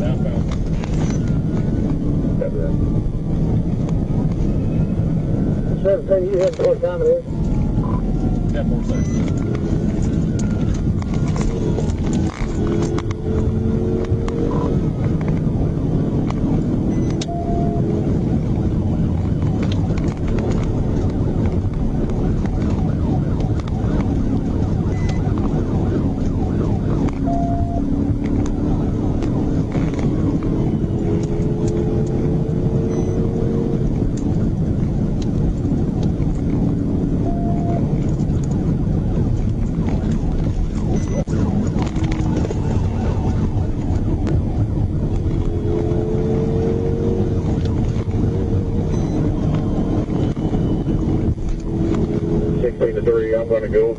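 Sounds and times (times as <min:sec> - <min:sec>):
car engine and tyre rumble: 0:00.0 - 0:53.9
road noise: 0:00.0 - 0:53.9.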